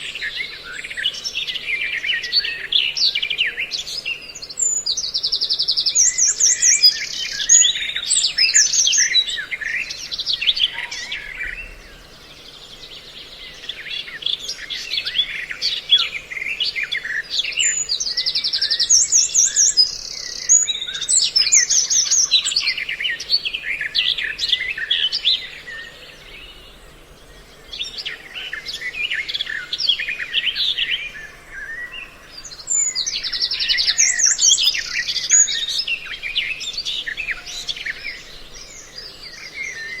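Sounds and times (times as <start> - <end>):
songbird chirps and trills: 0.0 - 40.0.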